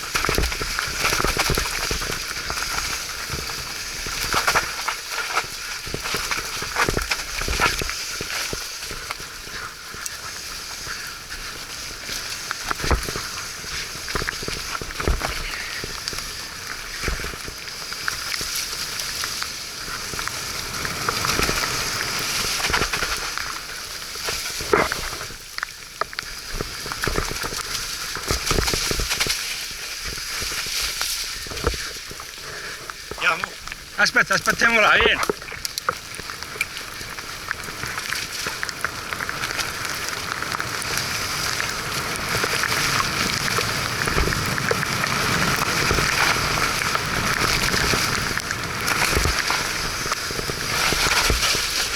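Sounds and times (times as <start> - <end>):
bike tyres through mud and water: 0.0 - 51.9.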